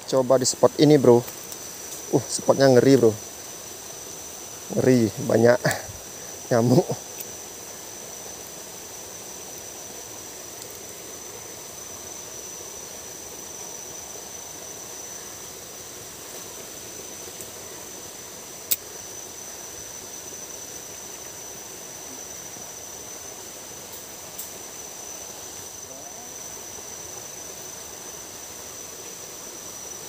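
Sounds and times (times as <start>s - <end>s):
high-pitched insect drone: 0.0s - 30.0s
steady hiss: 0.0s - 30.0s.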